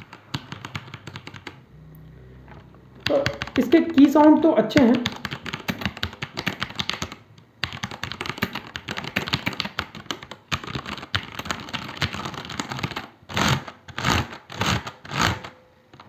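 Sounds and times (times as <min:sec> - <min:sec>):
mechanical keyboard typing: 0:00.0 - 0:01.6, 0:03.0 - 0:15.5.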